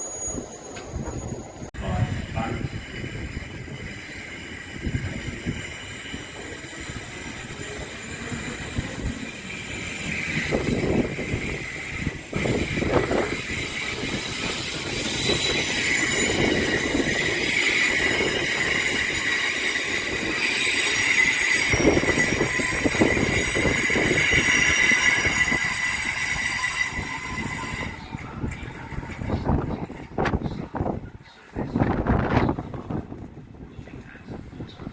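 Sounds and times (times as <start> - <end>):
train wheels squealing: 0.0 - 30.6.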